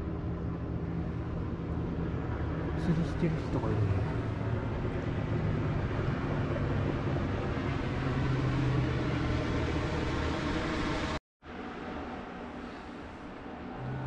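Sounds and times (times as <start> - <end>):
motorboat engine droning: 0.0 - 14.0
wind: 0.0 - 14.0.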